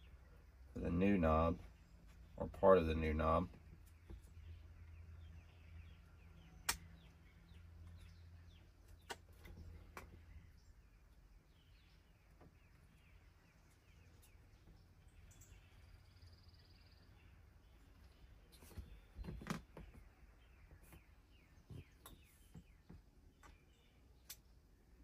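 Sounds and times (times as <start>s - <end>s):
faint bird chirps: 3.4s - 25.0s.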